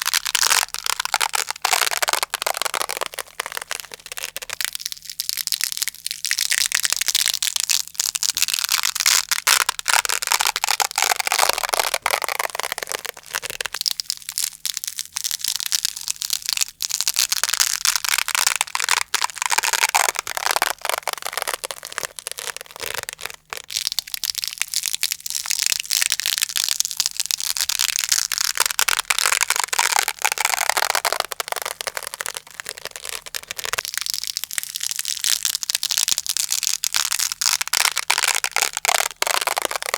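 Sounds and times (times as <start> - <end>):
hook-and-loop fastener tearing: 0.0 - 39.9.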